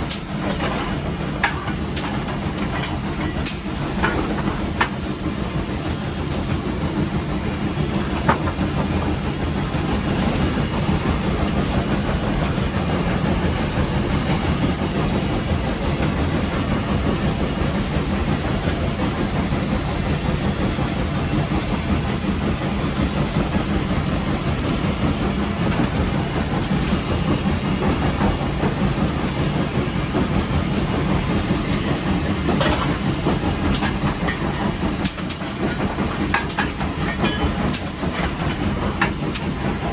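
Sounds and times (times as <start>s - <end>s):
steam locomotive rumbling: 0.0s - 39.9s.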